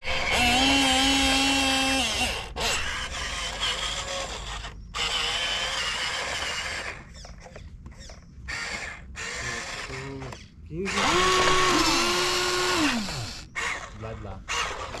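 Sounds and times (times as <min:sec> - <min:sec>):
model excavator motors whining: 0:00.0 - 0:15.0.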